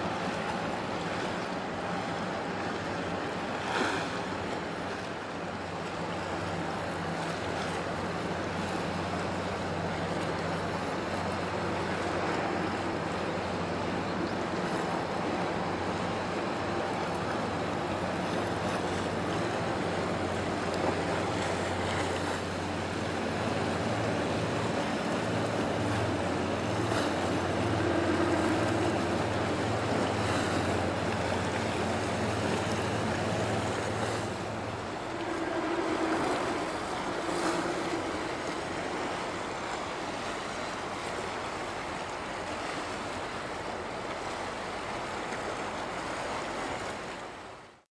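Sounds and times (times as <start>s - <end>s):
ship engine drone: 0.0s - 47.8s
water wash: 0.0s - 47.8s.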